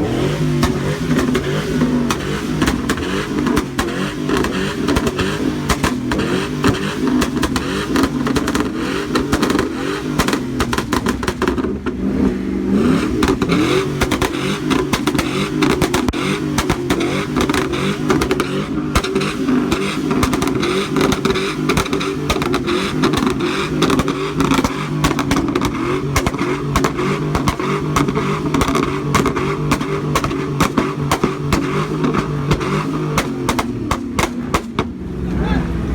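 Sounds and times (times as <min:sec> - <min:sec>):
exhaust pops crackling: 0:00.0 - 0:35.2
truck engine revving: 0:00.0 - 0:35.9.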